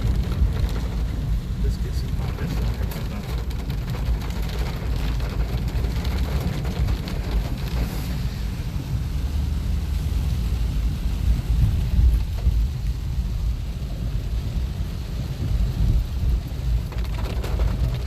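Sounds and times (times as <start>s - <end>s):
engine and road noise rumble: 0.0s - 18.0s
faint hiss of rain: 0.0s - 18.0s.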